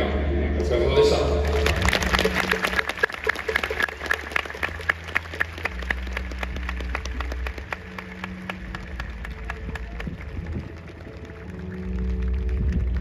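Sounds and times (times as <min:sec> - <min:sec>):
crowd applauding: 0:01.2 - 0:13.0.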